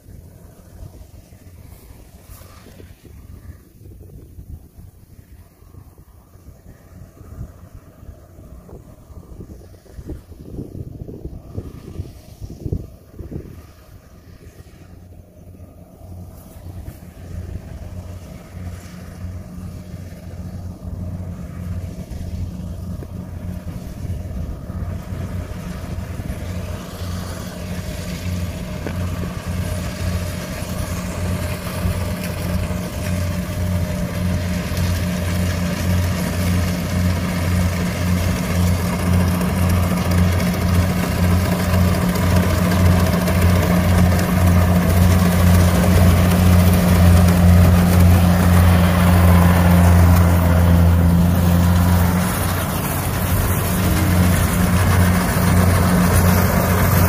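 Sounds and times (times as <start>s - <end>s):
combine harvester engine humming: 0.0s - 57.0s.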